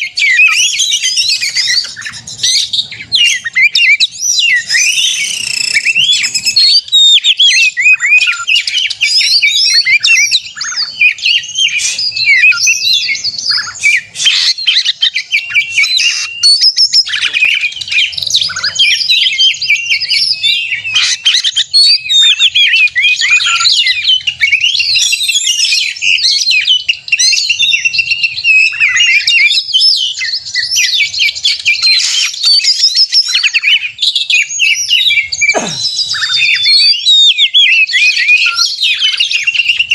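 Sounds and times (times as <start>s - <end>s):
bird singing varied whistles: 0.0s - 39.9s.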